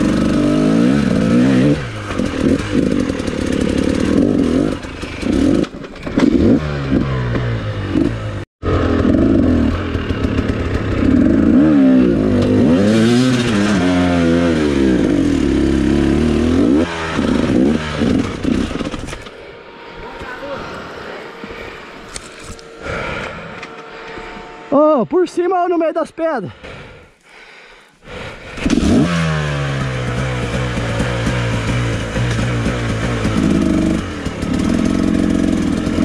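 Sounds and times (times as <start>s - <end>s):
off-road motorcycle engine revving: 0.0s - 27.0s, 28.0s - 36.0s.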